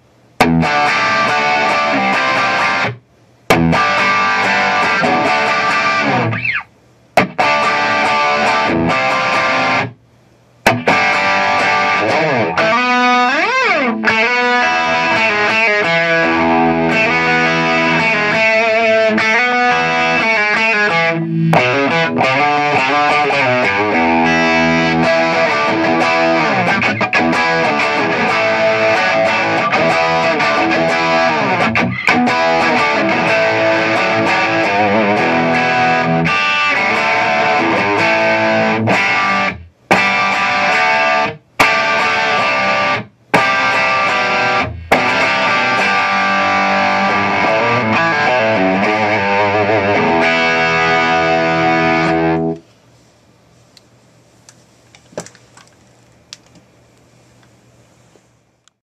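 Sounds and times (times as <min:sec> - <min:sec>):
faint amp hiss: 0:00.0 - 0:58.8
overdriven electric guitar riff: 0:00.4 - 0:10.0, 0:10.6 - 0:52.6.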